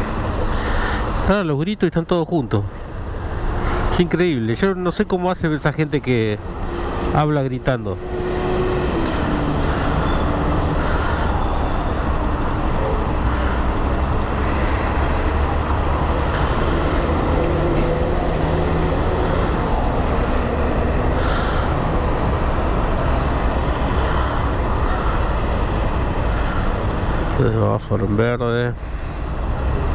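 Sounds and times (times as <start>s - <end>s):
city traffic: 0.0s - 29.9s.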